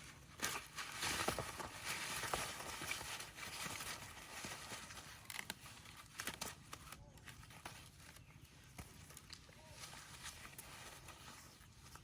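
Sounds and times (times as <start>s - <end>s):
close rustling and crackling: 0.0s - 12.0s.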